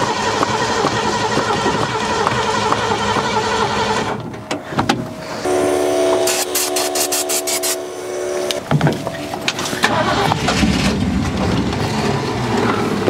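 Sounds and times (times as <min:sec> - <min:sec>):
engine starter whine: 0:00.0 - 0:11.8.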